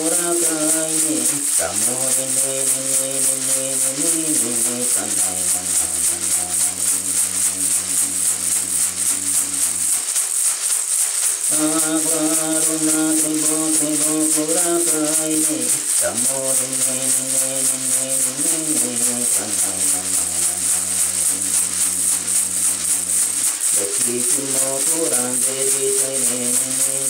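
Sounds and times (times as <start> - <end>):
man singing wordless long notes: 0.0 - 10.1, 11.4 - 27.0
leaf rattle and maraca shaking: 0.0 - 27.0.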